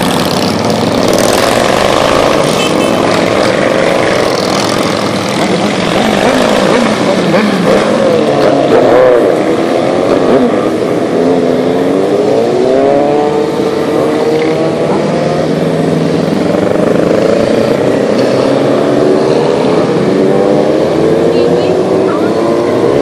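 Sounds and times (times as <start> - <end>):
motorcycles riding past: 0.0 - 23.0.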